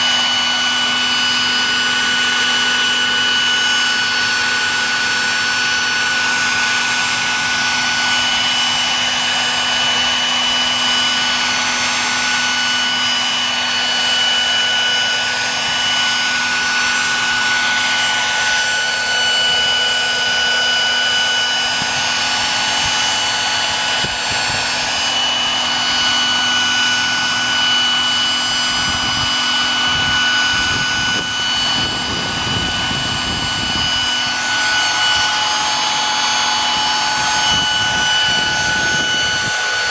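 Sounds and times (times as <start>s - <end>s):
model helicopter whine and rotor: 0.0s - 39.9s.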